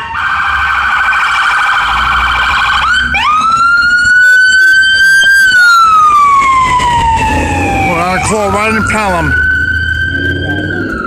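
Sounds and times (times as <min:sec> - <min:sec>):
emergency vehicle siren: 0:00.0 - 0:11.0.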